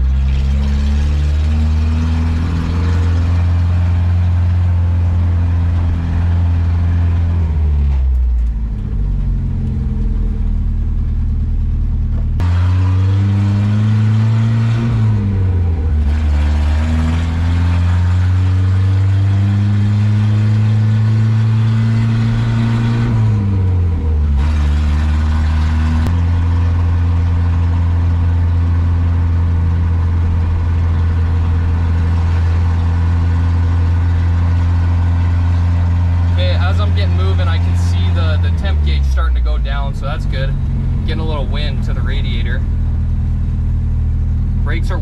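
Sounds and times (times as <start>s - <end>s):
pickup engine revving: 0.0s - 45.0s.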